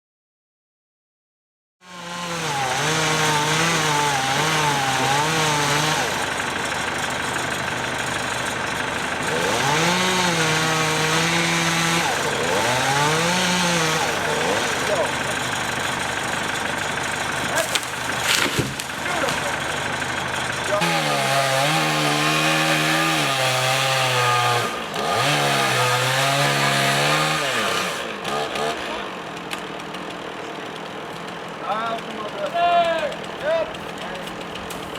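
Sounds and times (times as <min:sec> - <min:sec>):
chainsaw running at high revs: 0:01.8 - 0:34.9.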